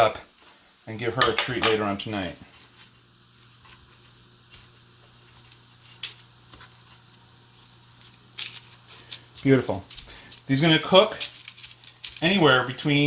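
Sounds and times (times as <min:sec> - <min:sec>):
low steady hum: 0:00.0 - 0:13.0
hands rustling cookie dough: 0:02.0 - 0:13.0.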